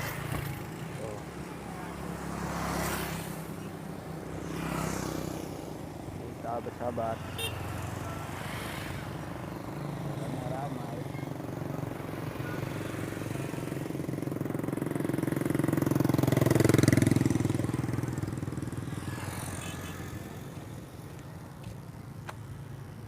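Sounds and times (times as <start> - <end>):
vehicle passing by: 0.0 - 21.6
steady traffic hum: 0.0 - 23.0.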